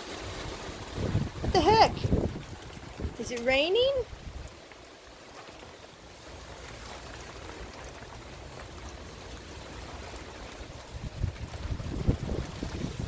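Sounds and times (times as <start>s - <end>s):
light rain falling: 0.0s - 13.0s.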